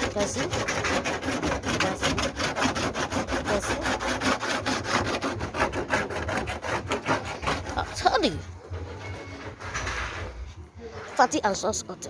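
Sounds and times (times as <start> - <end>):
tool rasping back and forth: 0.0 - 11.7.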